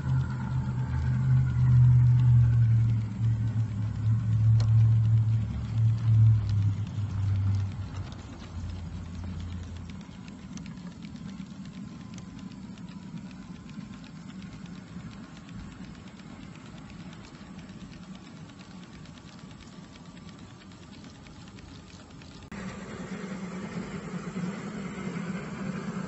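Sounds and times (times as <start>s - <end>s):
faint whine: 0.0s - 26.0s
fast light clicking: 0.0s - 26.0s
model train wheels rumbling: 0.0s - 26.0s.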